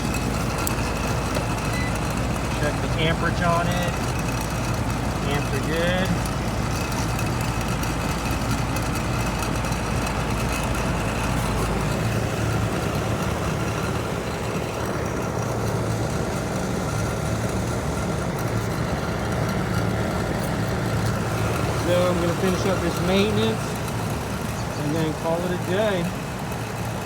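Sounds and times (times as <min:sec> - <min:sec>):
air conditioner unit humming: 0:00.0 - 0:27.0.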